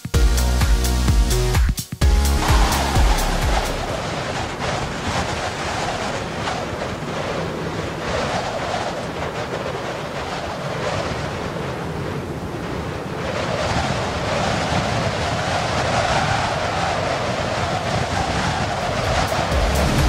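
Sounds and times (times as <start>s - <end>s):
ocean surf breaking: 2.0s - 20.0s
wind on microphone: 2.1s - 20.0s.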